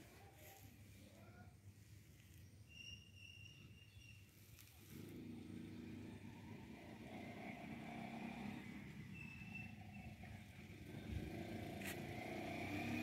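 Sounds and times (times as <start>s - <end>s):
faint vehicle engine rumble: 0.0s - 13.0s.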